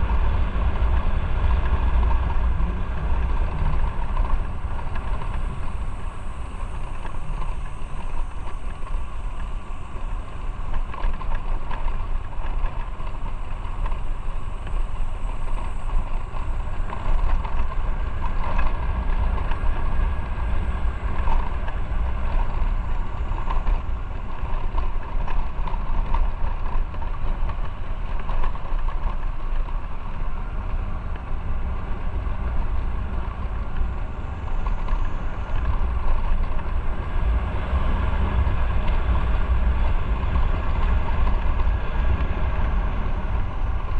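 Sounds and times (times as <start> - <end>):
motorcycle engine and road rumble: 0.0 - 43.9.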